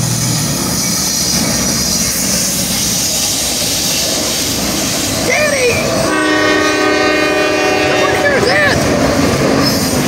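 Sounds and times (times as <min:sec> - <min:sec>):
freight train rumbling: 0:00.0 - 0:10.0.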